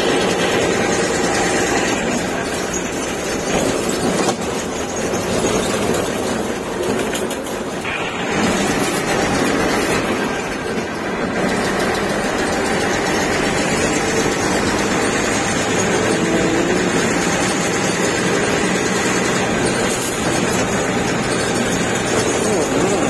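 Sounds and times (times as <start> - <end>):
bus engine running: 0.0 - 23.0
road noise: 0.0 - 23.0.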